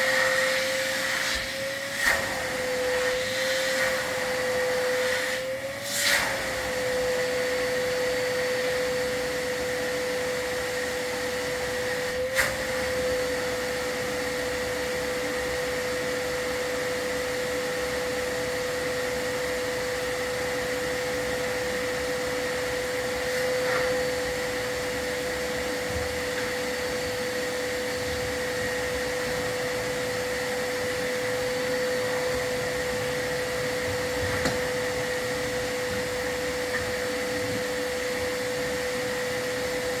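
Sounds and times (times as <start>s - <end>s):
vacuum motor whine: 0.0s - 40.0s.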